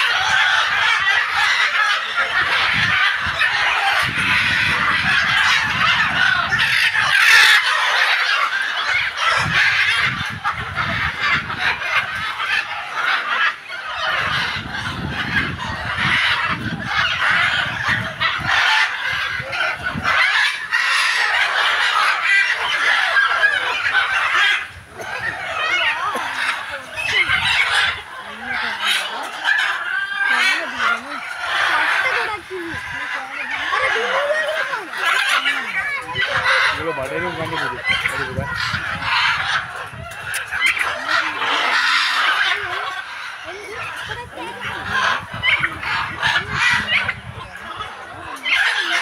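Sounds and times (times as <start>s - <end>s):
macaws squawking: 0.0s - 49.0s.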